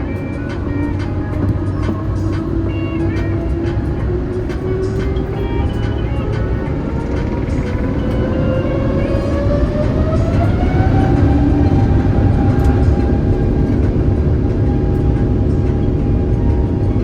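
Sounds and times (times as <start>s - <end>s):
heavy low rumble: 0.0s - 17.0s
jet engines whining: 0.0s - 17.0s.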